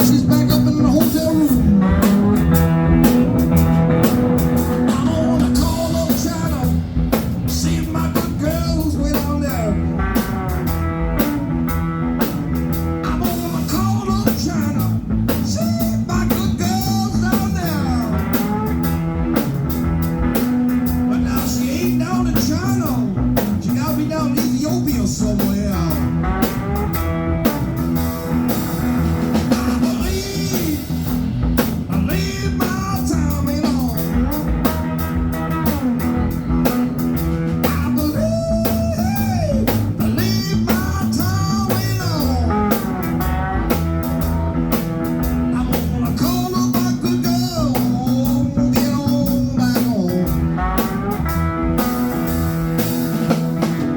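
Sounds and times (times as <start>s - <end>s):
amplified slide guitar blues: 0.0s - 53.9s.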